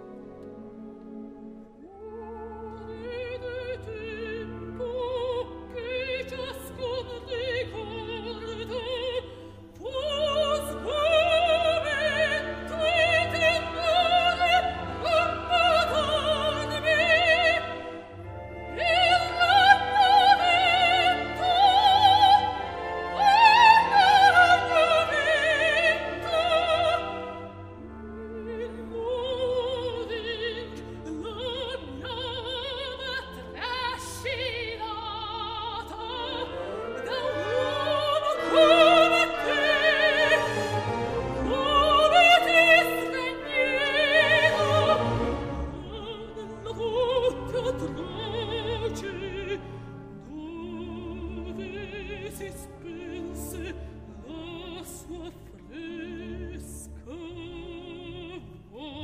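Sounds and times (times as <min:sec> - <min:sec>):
orchestral accompaniment: 0:00.0 - 0:59.0
soprano singing opera: 0:00.0 - 0:59.0.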